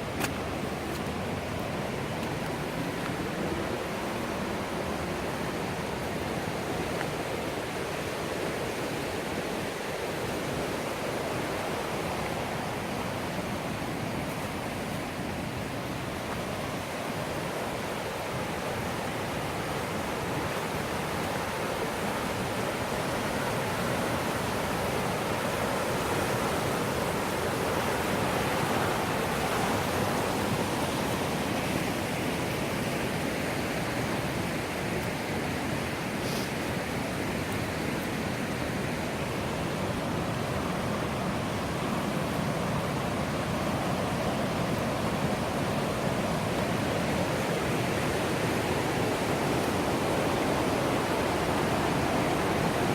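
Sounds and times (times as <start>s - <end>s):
river water flowing: 0.0s - 52.9s.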